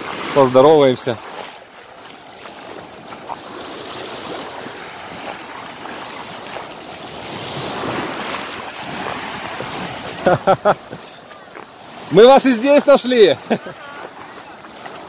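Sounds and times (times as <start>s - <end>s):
waves breaking on sandy beach: 0.0s - 15.0s.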